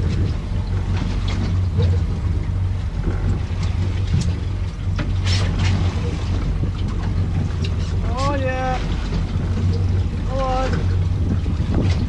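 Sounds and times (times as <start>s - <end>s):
fishing boat engine hum: 0.0s - 12.0s.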